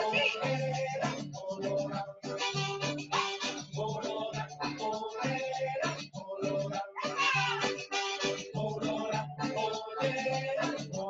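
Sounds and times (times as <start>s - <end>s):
dance music with steady beat: 0.0s - 11.0s.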